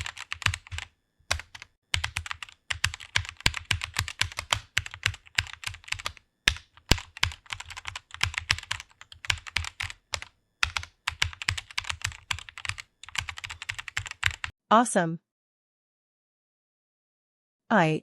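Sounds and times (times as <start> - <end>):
computer keyboard typing: 0.0 - 14.5.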